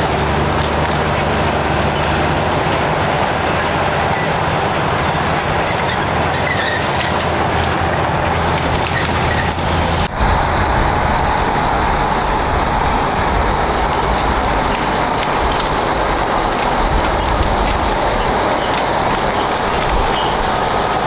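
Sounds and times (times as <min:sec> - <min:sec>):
diesel engines under load: 0:00.0 - 0:21.0
steel tracks and chain clattering: 0:00.0 - 0:21.0.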